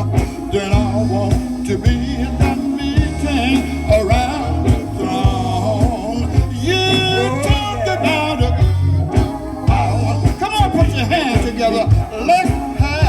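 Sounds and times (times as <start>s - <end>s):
bass guitar: 0.0s - 13.0s
man singing: 0.0s - 13.0s
steady drum beat: 0.0s - 13.0s.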